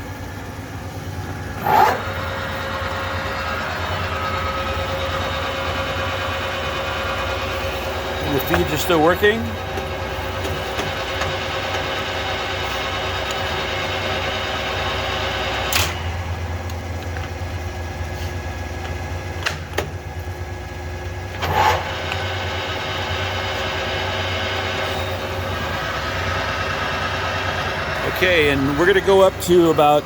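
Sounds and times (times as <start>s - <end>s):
lathe gearbox hum with whine: 0.0s - 30.0s.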